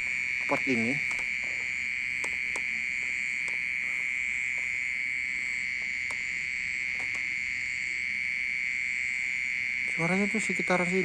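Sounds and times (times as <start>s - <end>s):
insect high-pitched ringing drone: 0.0s - 11.0s.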